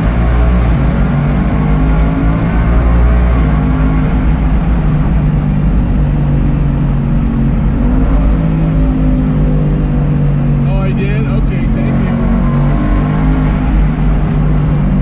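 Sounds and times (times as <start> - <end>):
car engine revving in a tunnel: 0.0 - 15.0.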